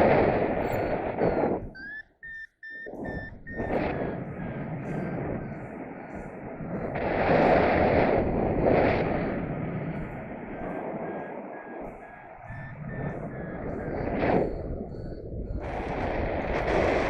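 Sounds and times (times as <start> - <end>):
wind rushing over microphone: 0.0 - 17.0
variometer beeping: 0.1 - 7.0, 9.3 - 17.0.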